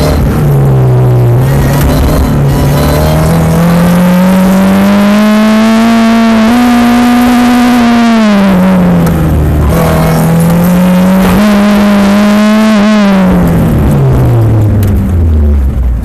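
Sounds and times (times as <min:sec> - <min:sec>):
car engine revving hard: 0:00.0 - 0:15.7.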